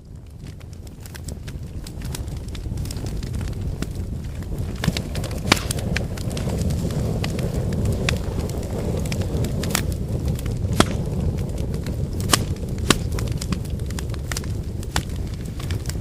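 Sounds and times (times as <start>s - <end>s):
firewood crackles and pops: 0.0s - 16.0s
low rumble of flames: 0.0s - 16.0s.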